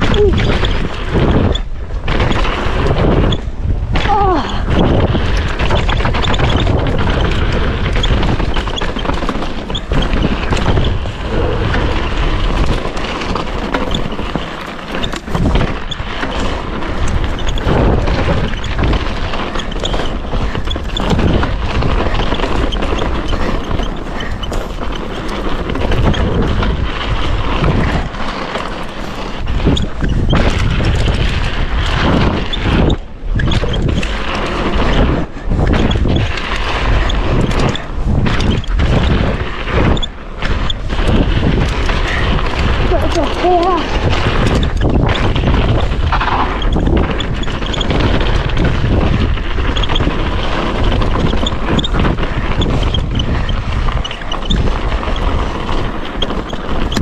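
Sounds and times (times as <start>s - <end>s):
bike knocking and rattling: 0.0s - 57.0s
bike tyres on icy gravel: 0.0s - 57.0s
wind buffeting microphone: 0.0s - 57.0s.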